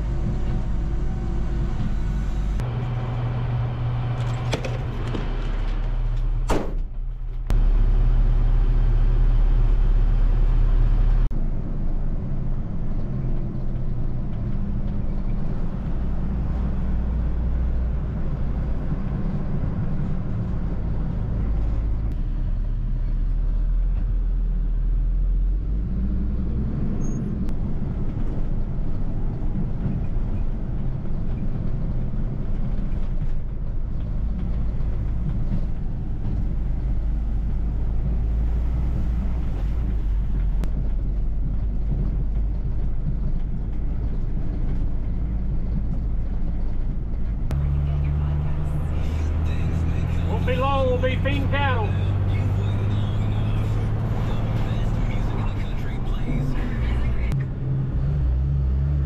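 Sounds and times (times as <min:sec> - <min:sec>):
road and tyre noise: 0:00.0 - 0:59.0
truck engine rumble: 0:00.0 - 0:59.0.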